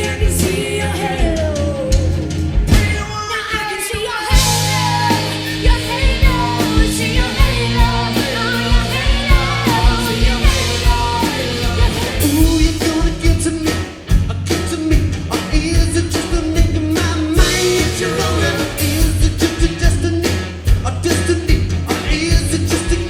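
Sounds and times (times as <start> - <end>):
bass: 0.0 - 23.0
drum beat: 0.0 - 23.0
person singing: 0.0 - 23.0.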